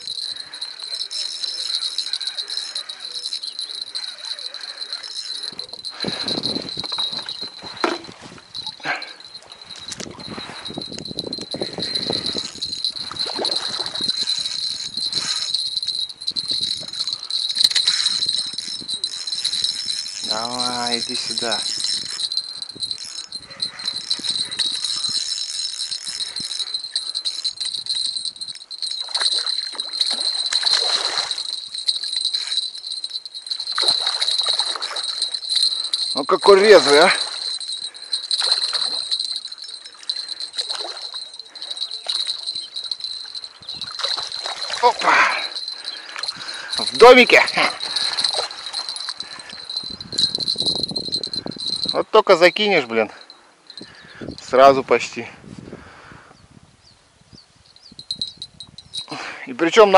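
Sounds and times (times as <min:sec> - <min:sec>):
fishing reel drag clicking: 0:00.0 - 0:44.8, 0:45.4 - 0:51.9
rapid rattling chirps: 0:00.0 - 0:54.8, 0:57.7 - 0:59.9.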